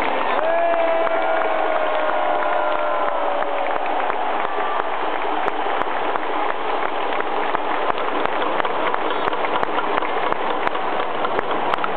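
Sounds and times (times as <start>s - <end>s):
individual sharp claps: 0.0s - 11.9s
stadium crowd applauding: 0.0s - 11.9s.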